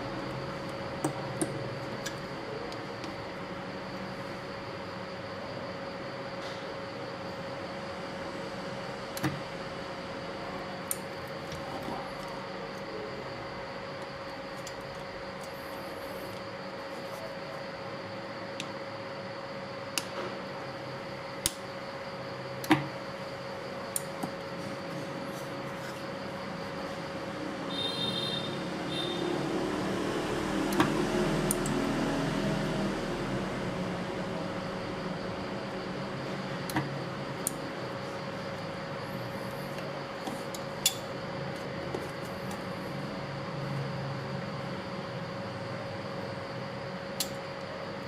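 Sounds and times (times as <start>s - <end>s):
steady background hum: 0.0s - 48.0s.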